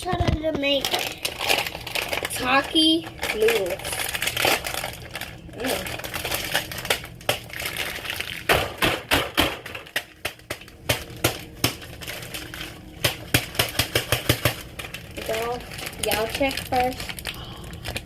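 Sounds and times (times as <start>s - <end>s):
chips being crushed: 0.2s - 18.0s.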